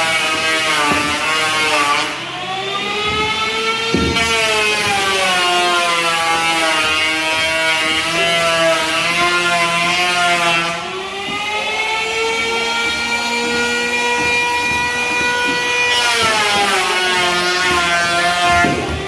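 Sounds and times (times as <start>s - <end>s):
power tool motor whining: 0.0s - 19.0s.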